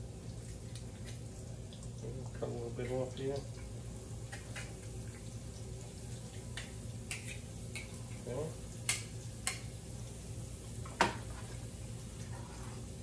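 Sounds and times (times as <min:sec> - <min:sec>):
food sizzling in butter: 0:00.0 - 0:13.0.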